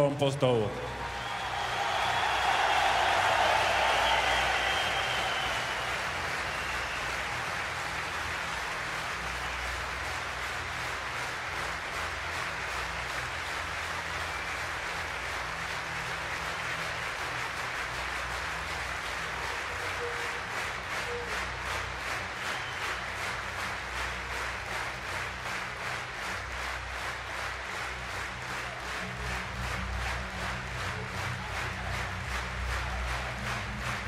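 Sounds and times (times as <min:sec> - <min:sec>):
crowd applauding: 0:00.0 - 0:34.0.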